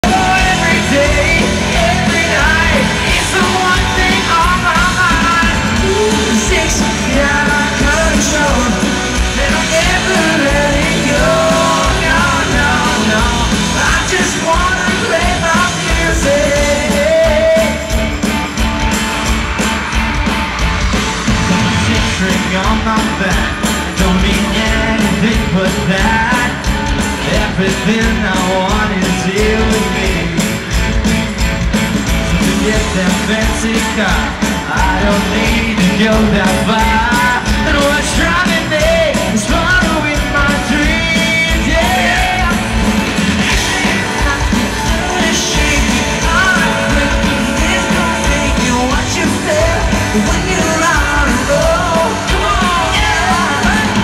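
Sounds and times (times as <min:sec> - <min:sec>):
man singing lead vocal: 0:00.0 - 0:20.0, 0:21.1 - 0:31.2, 0:32.1 - 0:54.0
crowd yelling: 0:00.0 - 0:54.0
pop-rock band playing live: 0:00.0 - 0:54.0.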